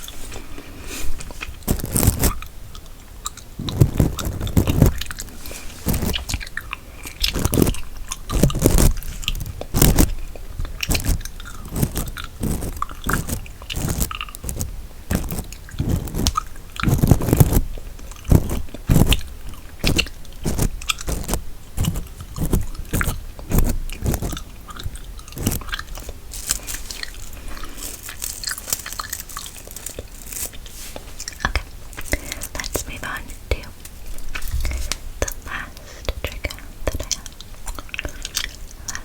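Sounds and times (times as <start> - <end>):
gum chewing: 0.0 - 39.0.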